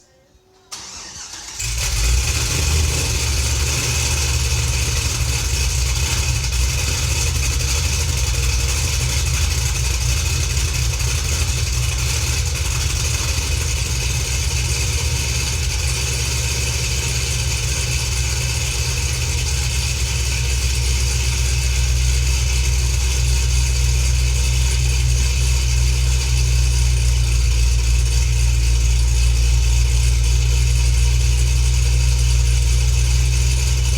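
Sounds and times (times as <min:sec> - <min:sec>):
car engine cranking: 0:00.7 - 0:33.9
car engine idling loud: 0:01.5 - 0:33.9.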